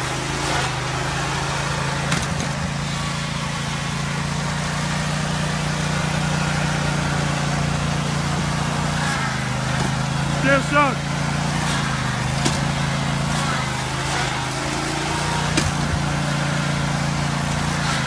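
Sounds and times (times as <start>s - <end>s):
riding lawn mower engine running: 0.0s - 18.0s.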